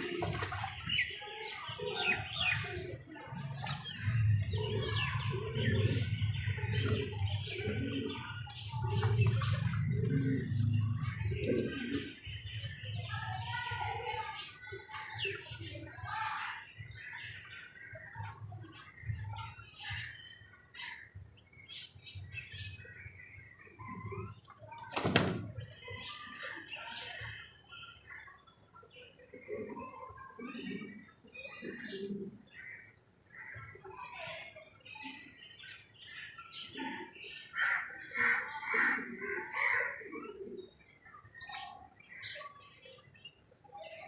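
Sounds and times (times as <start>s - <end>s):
birds chirping: 0.0s - 44.0s.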